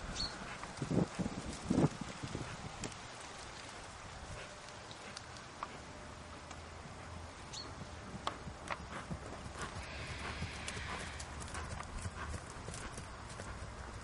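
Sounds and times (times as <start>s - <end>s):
horse hoofbeats on grass: 0.3s - 6.0s, 6.8s - 14.0s.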